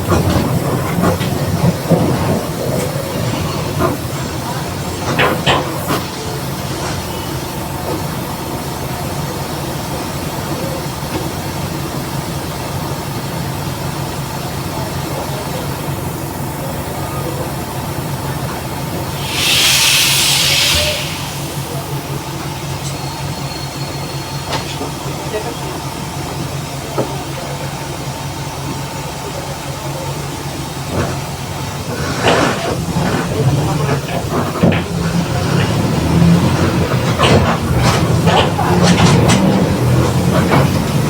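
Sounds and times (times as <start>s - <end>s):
bus engine drone: 0.0s - 41.0s.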